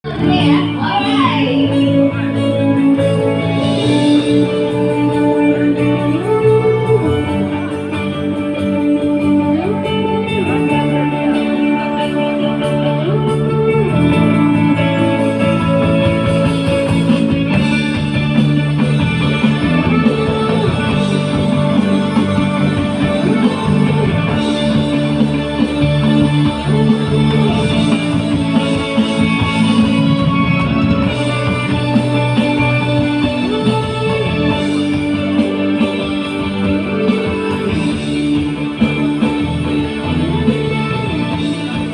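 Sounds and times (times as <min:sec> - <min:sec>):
guitar chords: 0:00.0 - 0:41.9.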